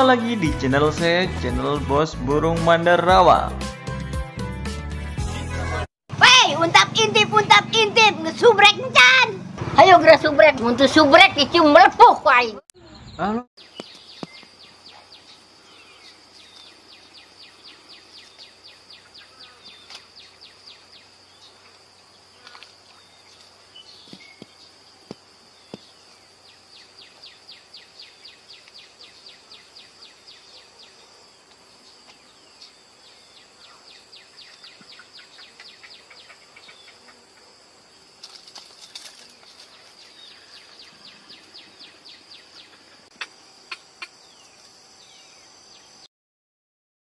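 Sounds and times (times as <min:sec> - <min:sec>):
insects chirping: 0:06.2 - 0:46.1.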